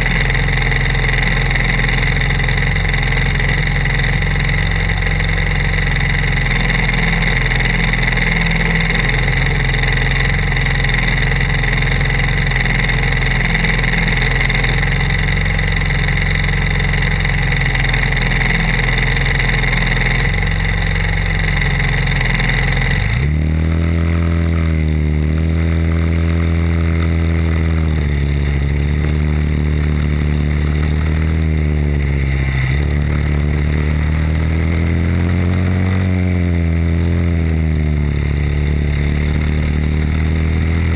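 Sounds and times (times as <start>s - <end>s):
kart engine idling and revving: 0.0s - 40.9s.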